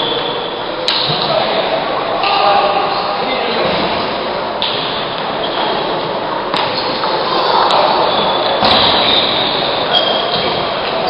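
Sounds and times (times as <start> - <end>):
sports hall background noise: 0.0 - 11.0.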